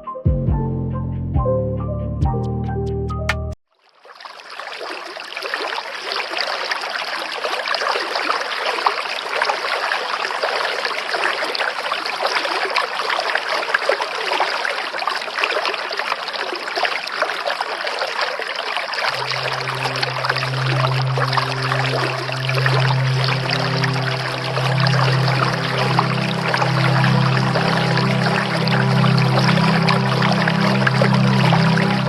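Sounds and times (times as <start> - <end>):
water running and splashing: 3.7 - 32.0.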